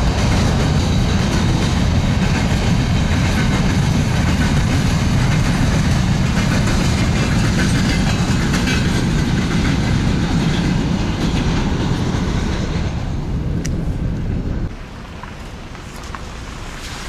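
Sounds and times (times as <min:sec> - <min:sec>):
freight train wheels clattering: 0:00.0 - 0:16.4.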